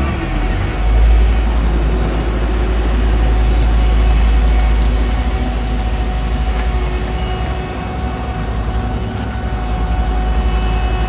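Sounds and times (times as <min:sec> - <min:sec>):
diesel machinery deep rumble: 0:00.0 - 0:11.0.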